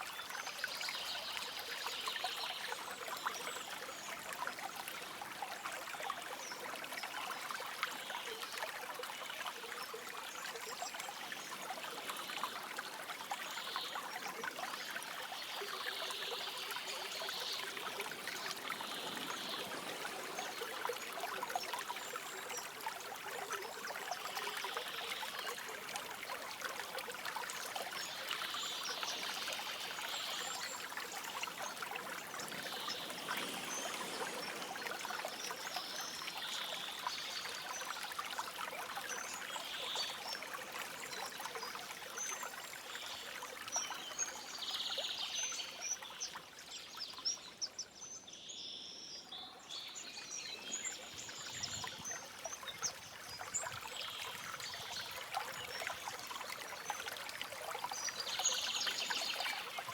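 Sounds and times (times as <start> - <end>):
stream babbling: 0.0 - 47.4, 49.4 - 59.9.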